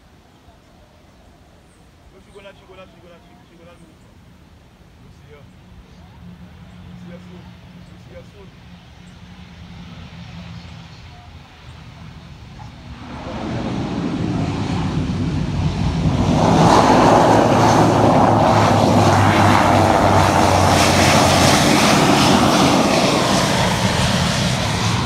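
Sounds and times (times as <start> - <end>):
turboprop engines and propellers: 1.7 - 25.0.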